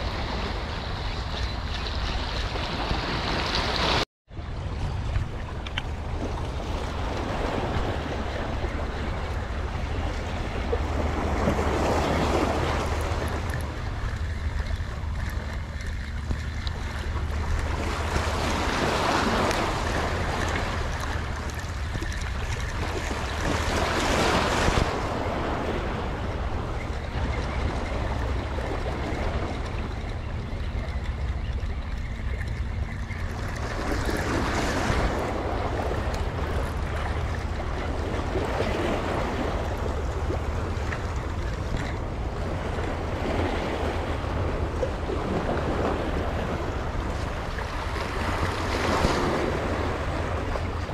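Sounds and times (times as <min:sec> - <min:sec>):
wind rumble on microphone: 0:00.0 - 0:50.9
sea waves washing against rocks: 0:05.7 - 0:50.9.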